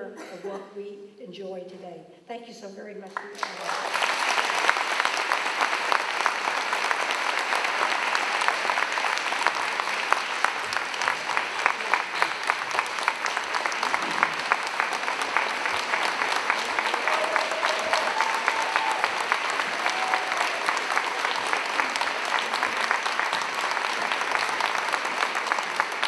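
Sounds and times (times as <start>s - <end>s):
audience applauding: 3.2s - 26.0s.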